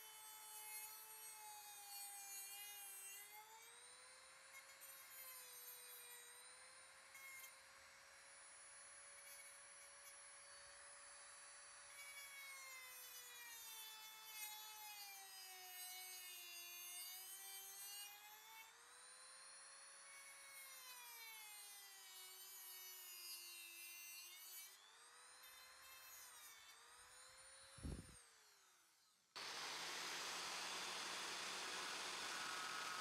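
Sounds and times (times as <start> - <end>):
rotary tool cutting metal: 0.0 - 33.0.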